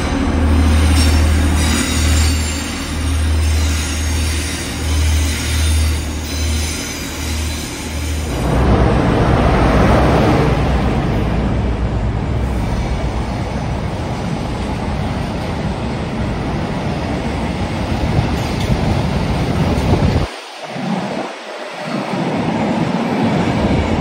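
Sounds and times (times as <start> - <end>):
diesel locomotive engine passing: 0.0 - 21.2
wagons rumbling and clattering on rails: 0.0 - 24.0.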